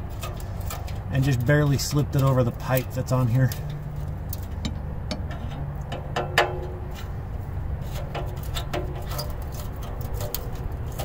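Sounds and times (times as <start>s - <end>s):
exhaust pipe clicks and knocks: 0.0s - 11.0s
steady low hum: 0.0s - 11.0s.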